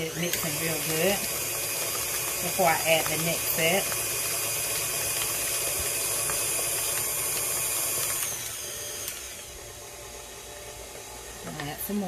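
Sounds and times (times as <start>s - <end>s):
electric mixer running: 0.0s - 12.0s.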